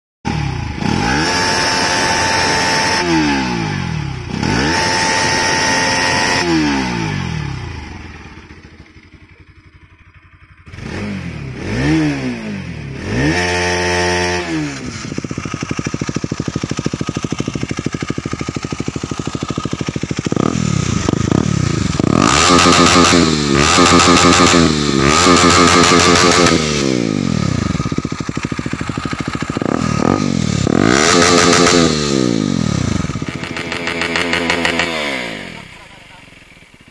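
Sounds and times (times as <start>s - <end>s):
motorcycle engine revving: 0.3s - 36.9s
motorcycle engine idling: 1.7s - 36.9s.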